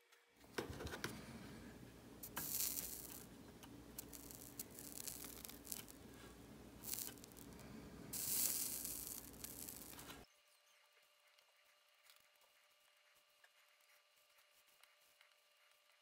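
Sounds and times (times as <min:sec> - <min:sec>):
solder flux sizzling: 0:00.4 - 0:16.0.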